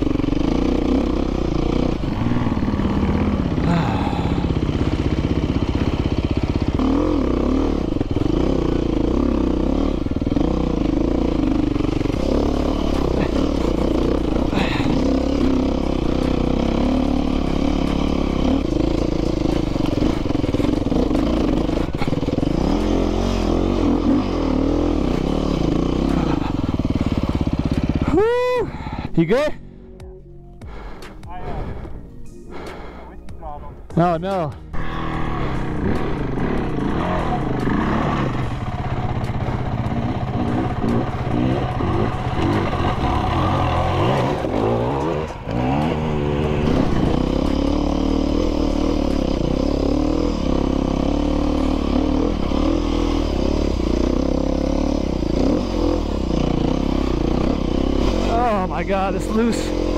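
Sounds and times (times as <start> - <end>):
dirt bike engine revving: 0.0 - 29.6, 33.9 - 59.9.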